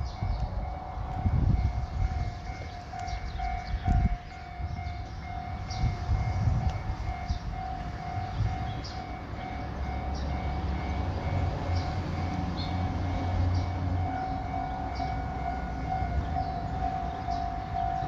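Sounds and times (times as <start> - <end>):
level-crossing warning bell: 0.0 - 18.0.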